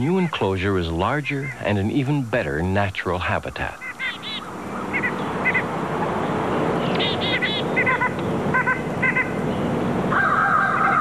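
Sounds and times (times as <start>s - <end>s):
steady hiss: 0.0s - 10.1s
birds calling: 0.0s - 11.0s.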